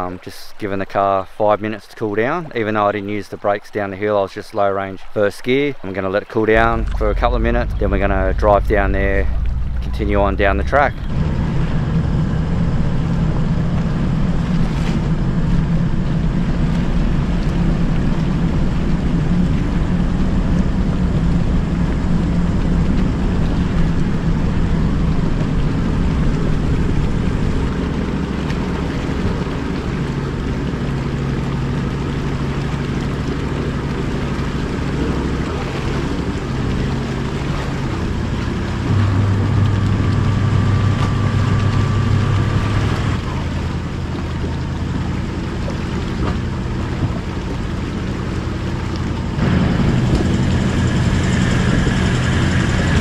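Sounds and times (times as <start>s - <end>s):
engine running under load: 6.4s - 53.0s.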